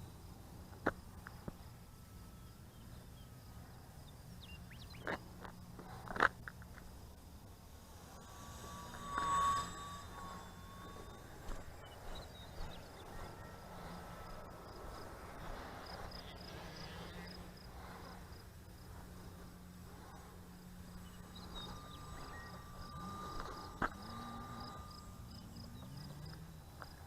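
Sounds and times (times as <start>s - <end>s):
insects chirping: 0.0s - 27.0s
model airplane motor drone: 0.0s - 27.0s.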